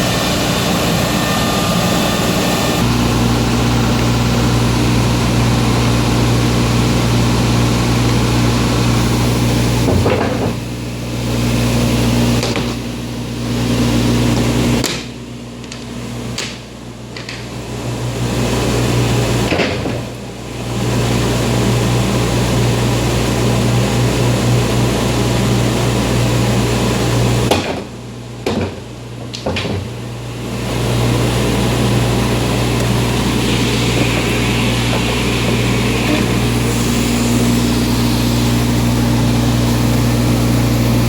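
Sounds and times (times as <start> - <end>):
router running with low hum: 0.0 - 41.0.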